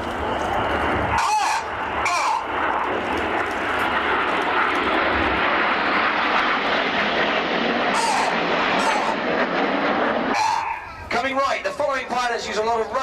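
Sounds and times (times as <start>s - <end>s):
jets flying in formation: 0.0s - 13.0s.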